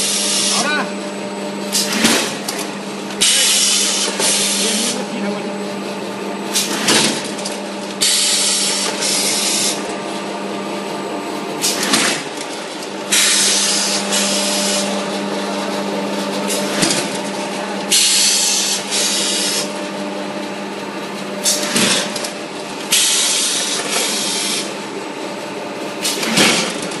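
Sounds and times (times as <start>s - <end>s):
machine motor hum: 0.0s - 27.0s.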